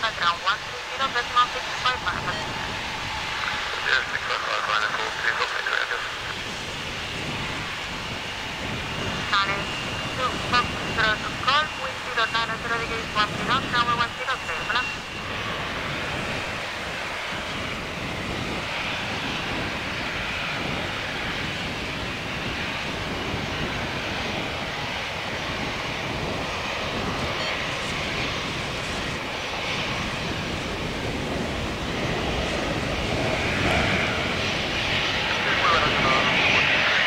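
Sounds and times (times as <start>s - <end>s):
jet engines hissing and whining: 0.0s - 37.0s.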